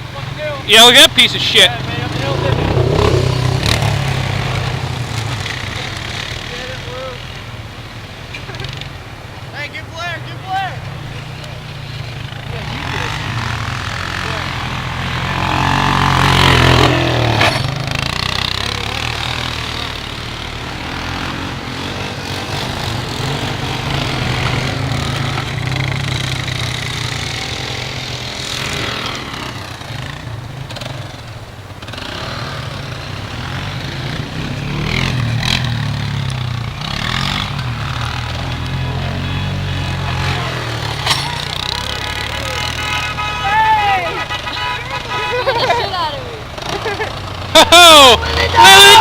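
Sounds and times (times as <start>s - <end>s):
atv engine revving: 0.0s - 49.0s.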